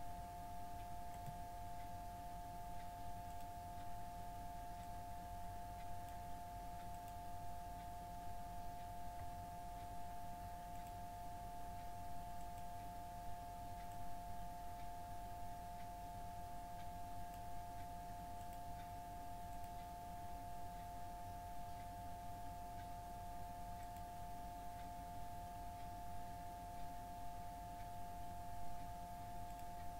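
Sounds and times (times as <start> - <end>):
two-tone background whine: 0.0 - 29.9.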